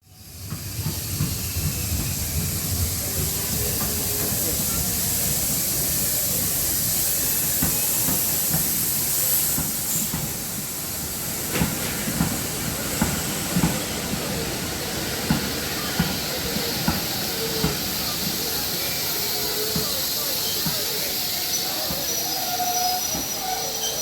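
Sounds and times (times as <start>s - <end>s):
steam locomotive hissing: 0.0s - 24.0s.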